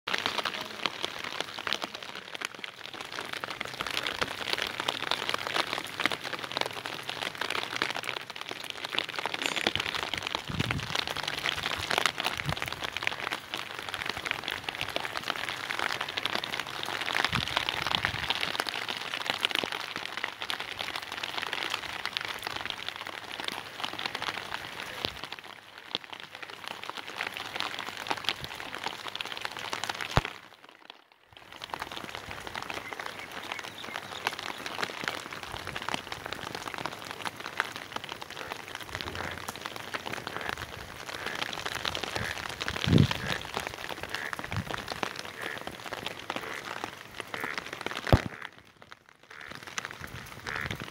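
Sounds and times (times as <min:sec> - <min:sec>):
heavy rain falling: 0:00.1 - 0:50.9.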